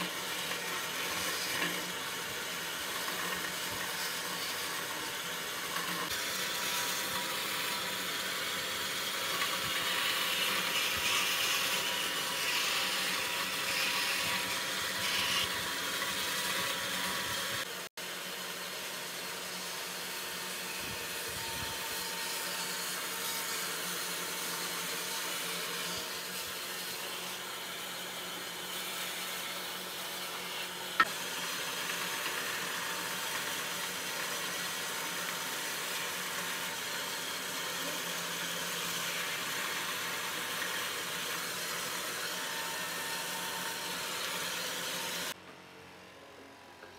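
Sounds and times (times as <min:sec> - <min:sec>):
saw blade cutting wood: 0:00.0 - 0:17.7, 0:18.7 - 0:45.4
band saw motor hum: 0:00.0 - 0:46.1.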